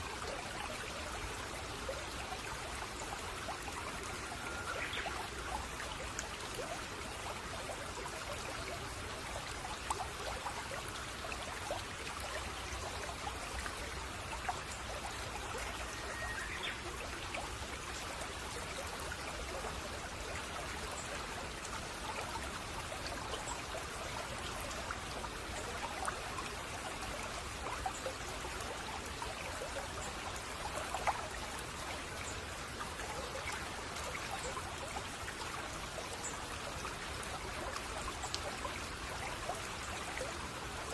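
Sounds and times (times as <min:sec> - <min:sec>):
stream water trickling over stones: 0:00.0 - 0:40.9.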